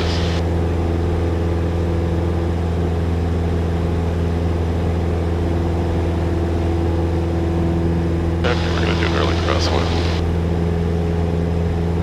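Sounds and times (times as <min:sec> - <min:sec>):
light airplane engine droning: 0:00.0 - 0:12.0.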